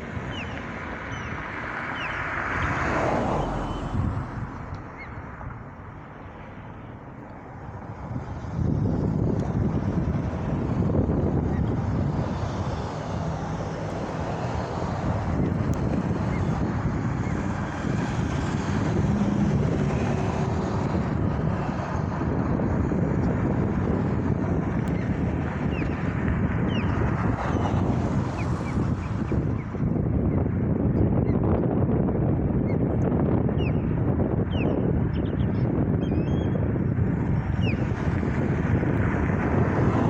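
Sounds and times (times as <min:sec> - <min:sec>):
wind buffeting microphone: 0:00.0 - 0:40.0
steady low rumbling: 0:03.4 - 0:40.0.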